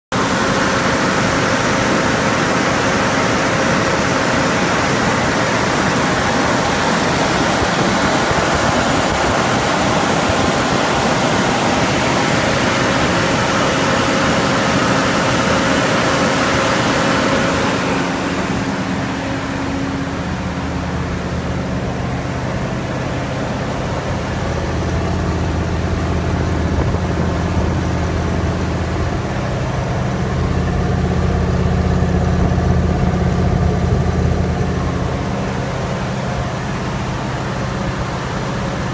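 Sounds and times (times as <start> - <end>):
car engine idling: 0.2 - 38.9.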